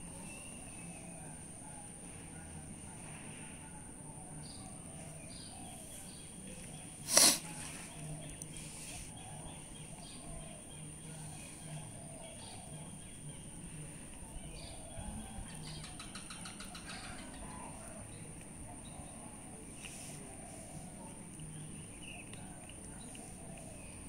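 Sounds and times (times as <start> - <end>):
distant birds chirping: 3.6 - 24.0.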